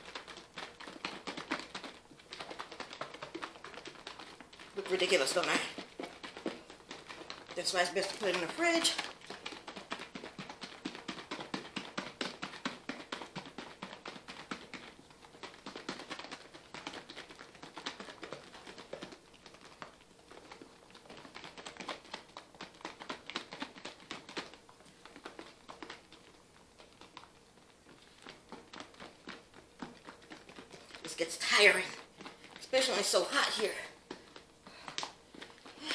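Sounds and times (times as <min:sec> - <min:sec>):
liquid sloshing in shaken container: 0:00.0 - 0:35.9.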